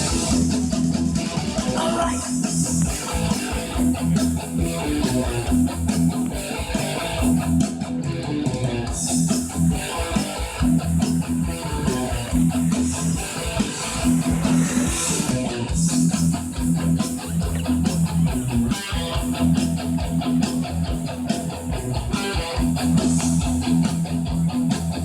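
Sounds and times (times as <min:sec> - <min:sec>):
rock music with electric guitar: 0:00.0 - 0:25.0.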